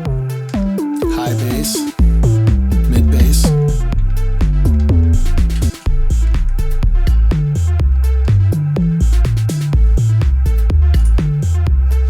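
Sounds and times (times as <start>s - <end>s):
electronic dance drum groove: 0.0s - 12.0s
synth sub bass line: 0.0s - 12.0s.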